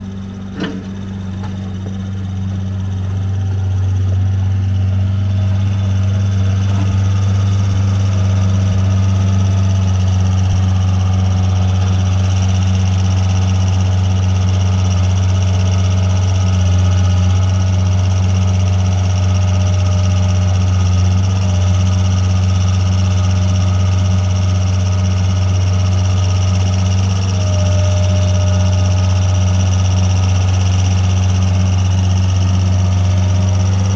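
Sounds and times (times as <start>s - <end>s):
skid steer engine humming: 0.0s - 33.9s.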